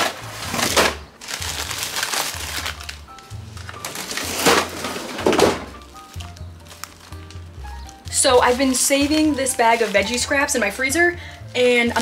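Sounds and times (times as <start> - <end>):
background music: 0.0 - 12.0
plastic bags crinkling: 0.0 - 12.0.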